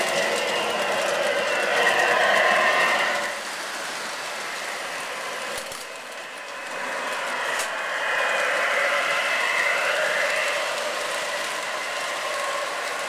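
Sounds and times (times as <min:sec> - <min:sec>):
model train rolling rumble: 0:00.0 - 0:13.0.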